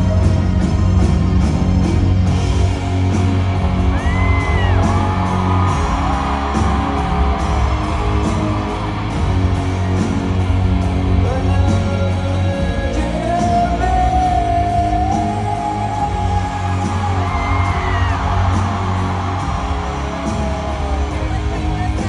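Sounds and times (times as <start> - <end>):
rock band playing loudly: 0.0 - 22.0.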